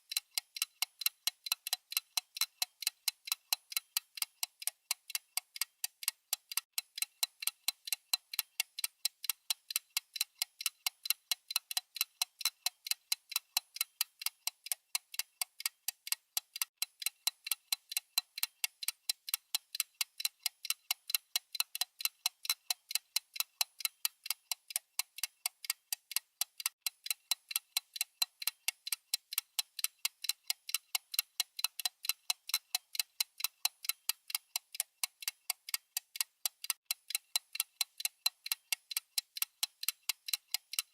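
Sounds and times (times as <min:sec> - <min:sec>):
watch ticking: 0:00.0 - 0:40.9.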